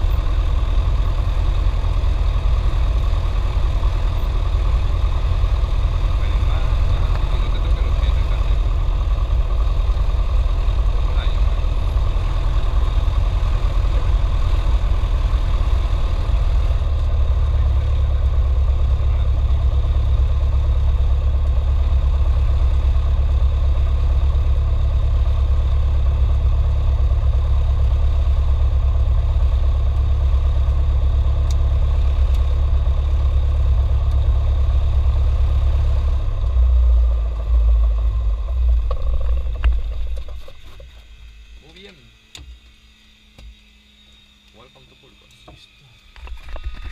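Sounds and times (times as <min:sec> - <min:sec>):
piston engine idling: 0:00.0 - 0:42.4.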